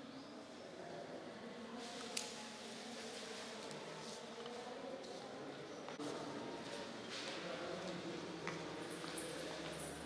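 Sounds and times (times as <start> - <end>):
murmur of distant voices: 0.0 - 10.0.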